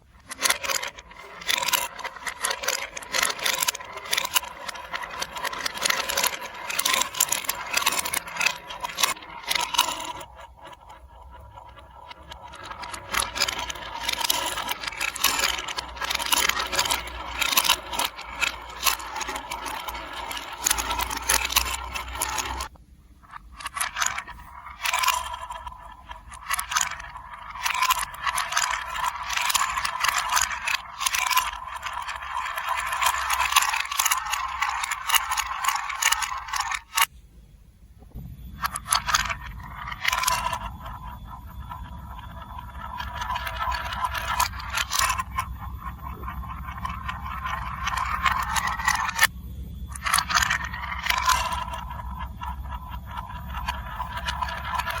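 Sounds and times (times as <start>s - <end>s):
marbles rattling through plastic run: 0.0s - 37.1s, 38.6s - 49.3s, 49.9s - 55.0s.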